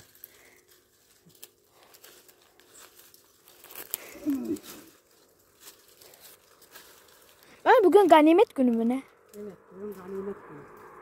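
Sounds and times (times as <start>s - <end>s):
leaves and twigs snapping and rustling: 0.0s - 10.8s.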